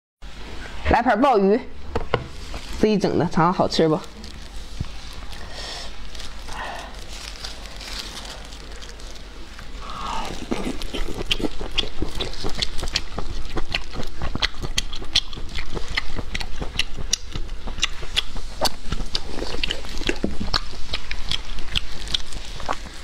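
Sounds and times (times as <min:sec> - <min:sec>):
wet chewing and mouth clicks: 0:04.1 - 0:23.0.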